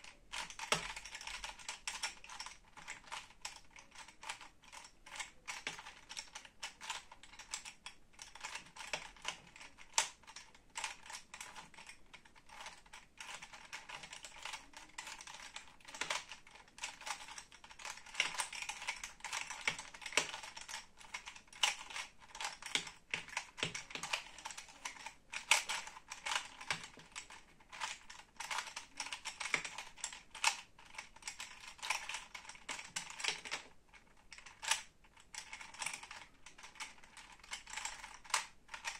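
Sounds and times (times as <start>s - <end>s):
puzzle cube clicking: 0.1s - 38.9s.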